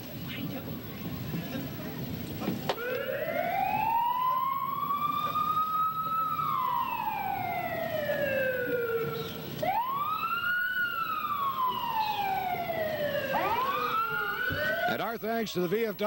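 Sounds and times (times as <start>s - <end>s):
vehicle siren wailing: 2.8s - 15.9s.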